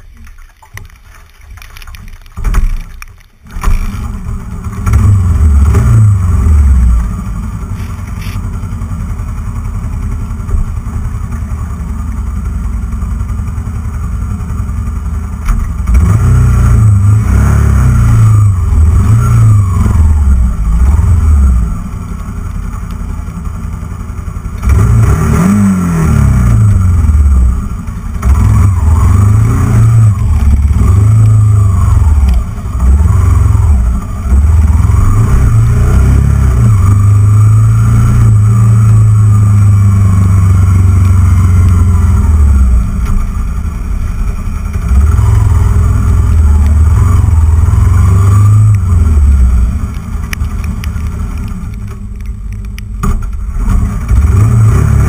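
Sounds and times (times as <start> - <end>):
motorcycle engine revving: 3.4 - 52.3, 53.0 - 55.0.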